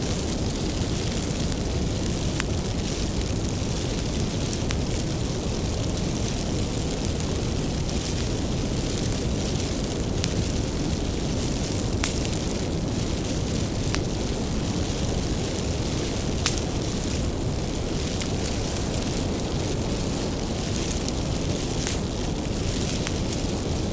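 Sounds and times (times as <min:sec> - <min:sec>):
wood fire burning: 0:00.0 - 0:23.9.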